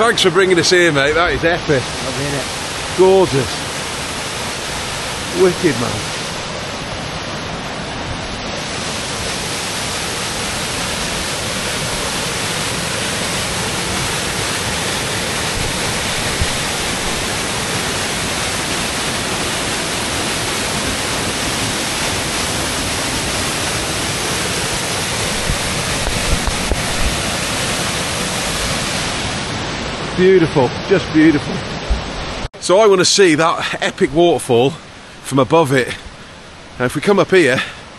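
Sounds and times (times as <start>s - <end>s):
stream running over rocks: 0.0s - 37.9s
waterfall rushing: 0.0s - 37.9s.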